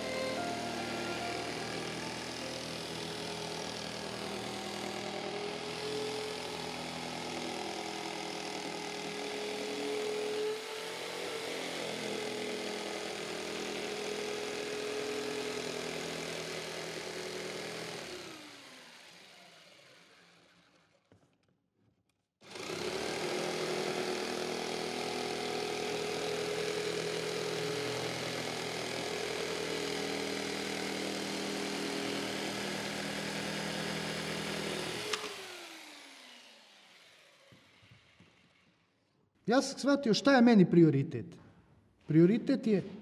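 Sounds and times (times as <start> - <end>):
motor humming and winding down: 0.0 - 20.8, 22.5 - 38.8.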